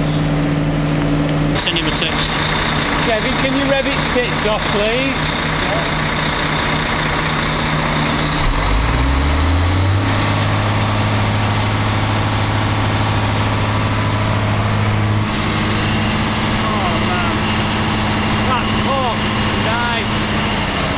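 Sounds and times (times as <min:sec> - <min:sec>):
diesel bus engine revving: 0:00.0 - 0:20.9.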